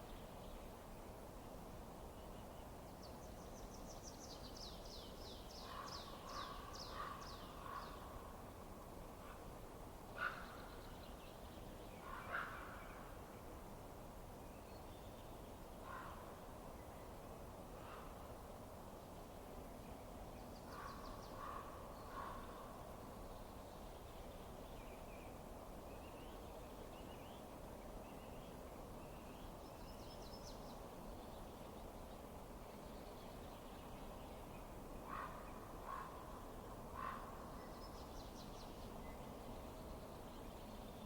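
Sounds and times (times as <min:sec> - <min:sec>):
low background noise: 0:00.0 - 0:41.0.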